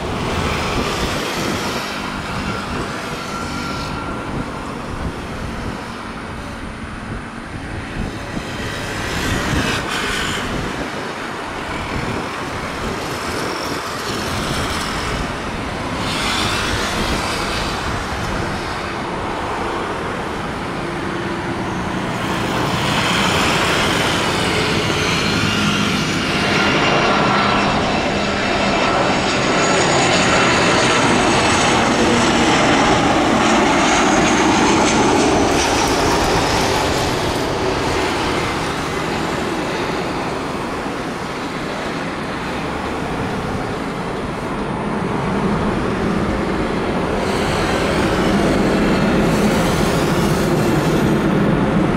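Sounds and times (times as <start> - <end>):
jet aircraft rush and whine: 0.0 - 51.9.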